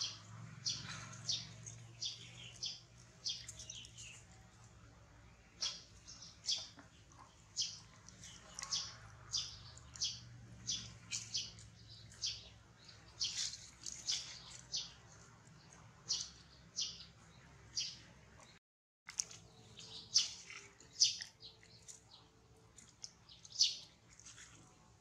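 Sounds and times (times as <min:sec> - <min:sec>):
birds chirping: 0:00.0 - 0:18.6, 0:19.3 - 0:24.0
faint outdoor background: 0:00.0 - 0:25.0.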